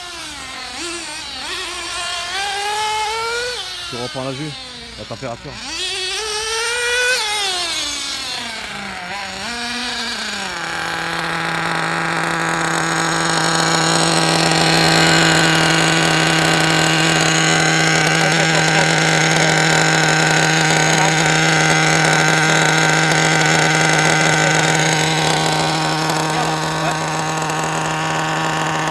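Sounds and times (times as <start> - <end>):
nitro engine idling: 0.0 - 28.9.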